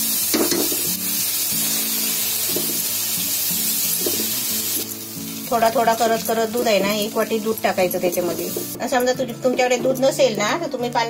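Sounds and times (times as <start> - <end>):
milk sizzling in a pan: 0.0 - 10.3
background music: 0.0 - 11.0.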